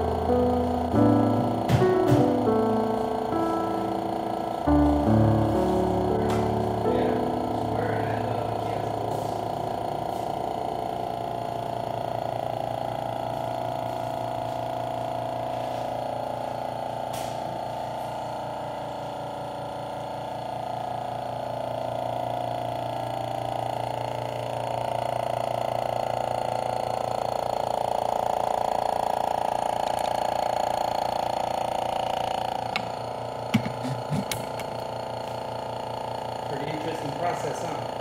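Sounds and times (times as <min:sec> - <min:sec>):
air compressor running: 0:00.0 - 0:38.0.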